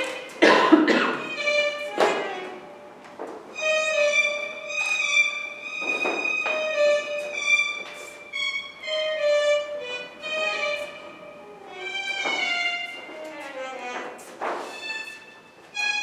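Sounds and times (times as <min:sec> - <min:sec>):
solo violin slow melody: 0:00.0 - 0:00.4, 0:01.1 - 0:16.0.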